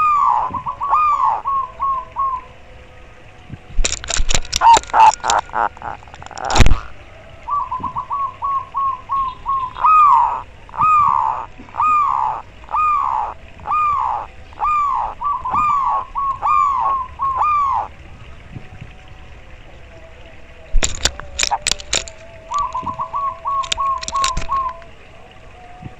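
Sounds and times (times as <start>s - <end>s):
dove cooing: 0.0s - 2.6s, 3.8s - 19.0s, 19.6s - 25.9s.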